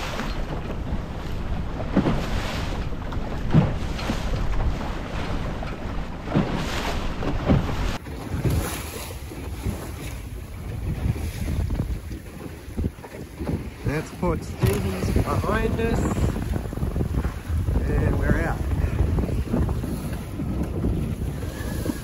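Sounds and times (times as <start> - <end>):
water splashing along hull: 0.0 - 22.0
wind buffeting microphone: 0.0 - 22.0.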